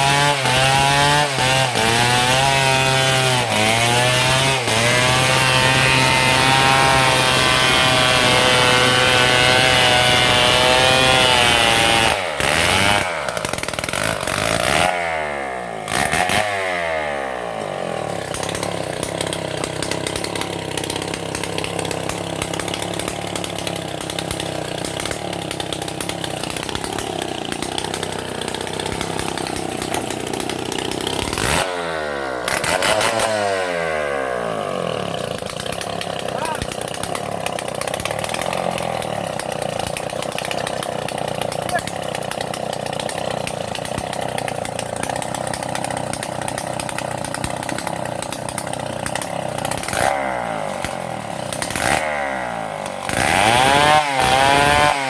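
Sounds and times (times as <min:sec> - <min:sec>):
chainsaw cutting wood: 0:00.0 - 0:55.0
chainsaw idling and revving: 0:00.0 - 0:55.0.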